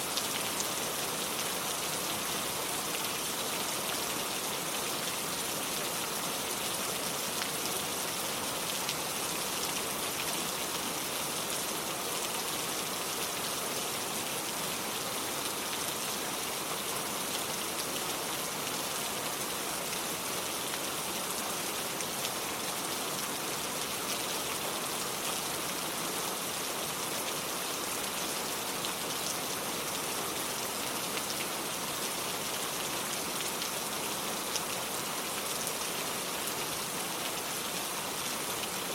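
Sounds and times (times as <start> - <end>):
steady rain hissing: 0.0 - 38.9.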